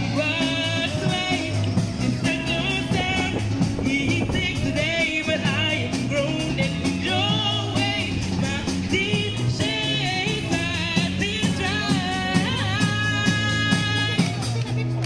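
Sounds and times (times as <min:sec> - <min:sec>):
women singing: 0:00.0 - 0:14.2
live band playing upbeat song: 0:00.0 - 0:15.0.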